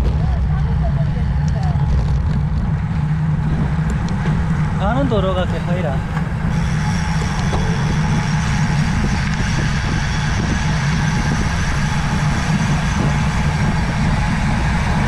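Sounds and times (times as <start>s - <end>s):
bike tyre road noise: 0.0s - 15.0s
wind on microphone: 0.0s - 15.0s.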